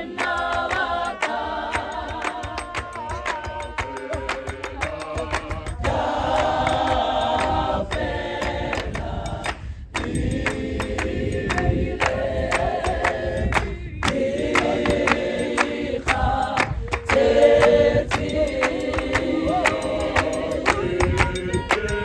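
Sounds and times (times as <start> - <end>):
choir singing in harmony: 0.0 - 22.0
sharp hand claps: 0.1 - 22.0.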